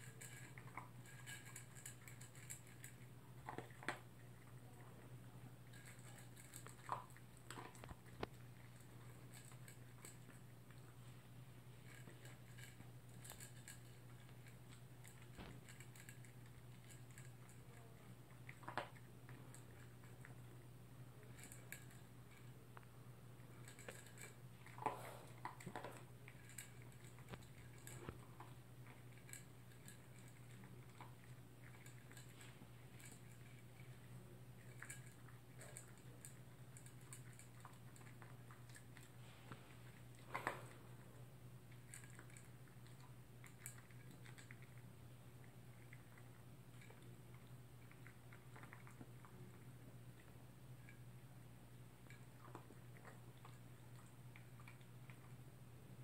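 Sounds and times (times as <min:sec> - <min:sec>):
dog chewing food: 0:00.0 - 0:55.6.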